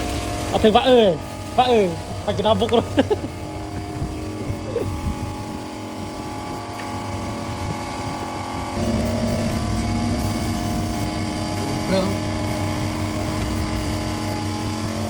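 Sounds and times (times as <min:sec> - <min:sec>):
machine droning hum: 0:00.0 - 0:15.0.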